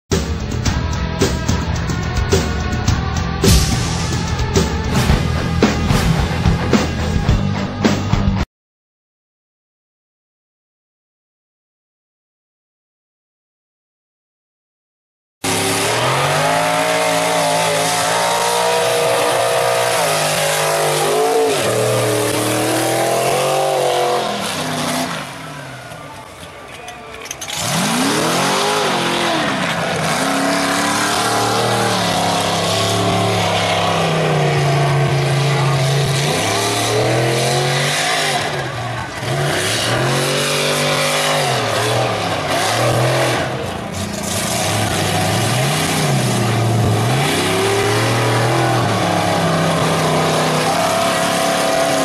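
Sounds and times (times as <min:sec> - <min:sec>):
truck engine revving: 0:00.1 - 0:08.4, 0:15.4 - 0:52.0.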